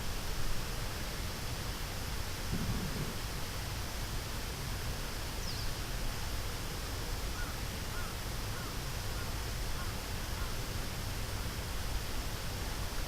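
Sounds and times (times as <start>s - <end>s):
river background noise: 0.0s - 13.0s.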